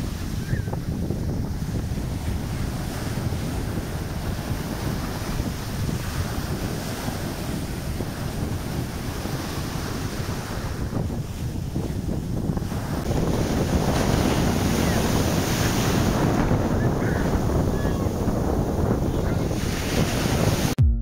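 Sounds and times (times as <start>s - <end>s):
surf washing over sand: 0.0s - 20.8s.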